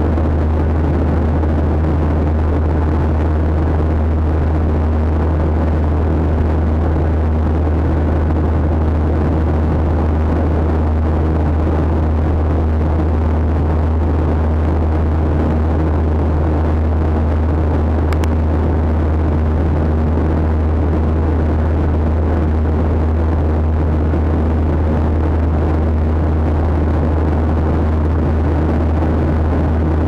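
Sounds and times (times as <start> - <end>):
airliner cabin engine drone: 0.0 - 30.0
low hum: 0.0 - 30.0.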